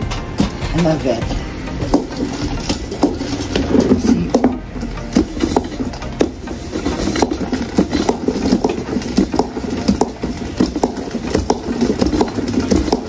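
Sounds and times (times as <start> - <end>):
spin mop basket whirring: 0.0 - 13.0.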